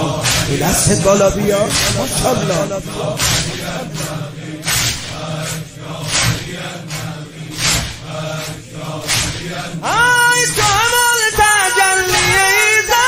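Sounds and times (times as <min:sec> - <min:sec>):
congregation chanting in unison: 0:00.0 - 0:13.0
loud rhythmic strikes: 0:00.0 - 0:13.0.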